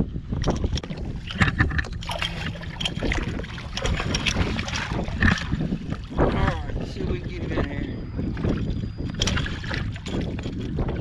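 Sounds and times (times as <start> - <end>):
wind buffeting microphone: 0.0 - 11.0
water splashing: 0.4 - 11.0.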